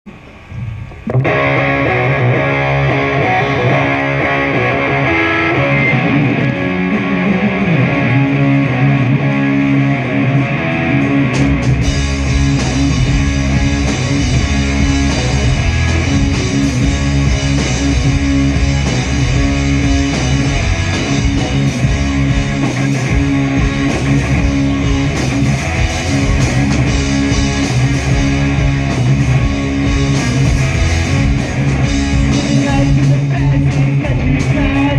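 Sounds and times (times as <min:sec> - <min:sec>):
bass and drums: 0:00.0 - 0:34.9
electric guitar: 0:00.1 - 0:34.9.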